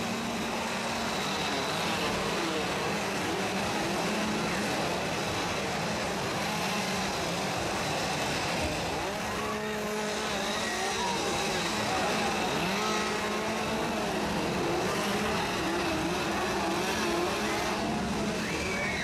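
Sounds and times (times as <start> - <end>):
chainsaws revving: 0.0 - 19.0.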